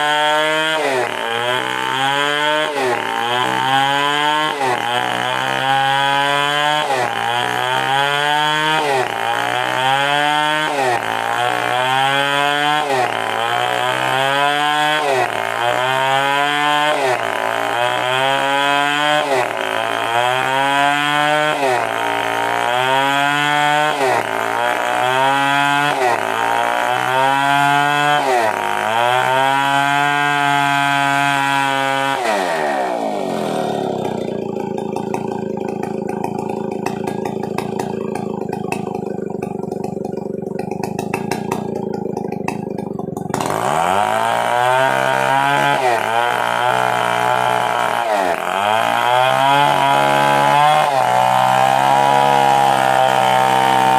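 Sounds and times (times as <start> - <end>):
chainsaw cutting at high revs: 0.0 - 53.9.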